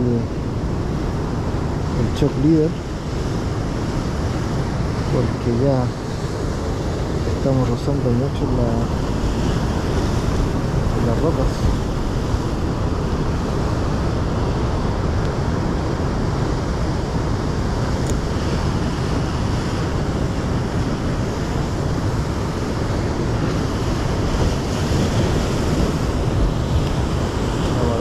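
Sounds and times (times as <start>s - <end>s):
surf washing against rocks: 0.0s - 28.0s
wind buffeting microphone: 0.0s - 28.0s.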